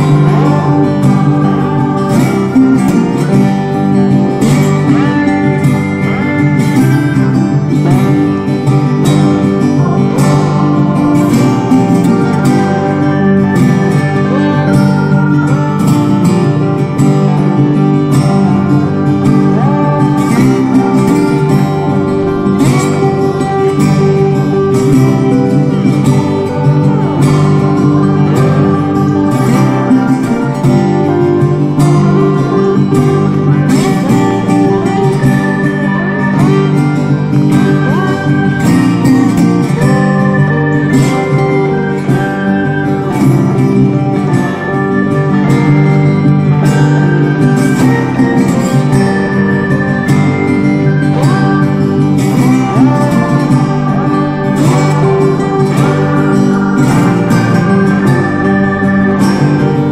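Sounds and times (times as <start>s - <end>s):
plucked acoustic guitar: 0.0s - 59.9s
steady beat: 0.0s - 59.9s.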